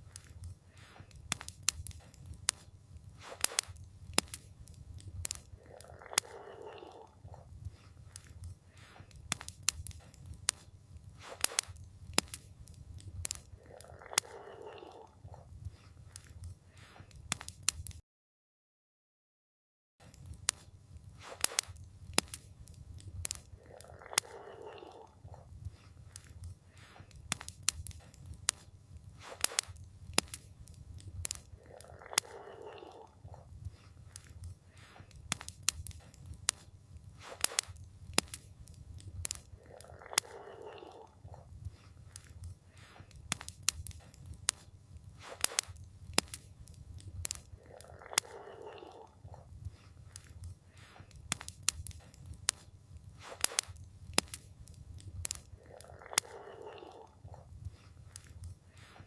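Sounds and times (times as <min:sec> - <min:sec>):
campfire crackling: 0:00.0 - 0:18.0, 0:20.0 - 0:59.0.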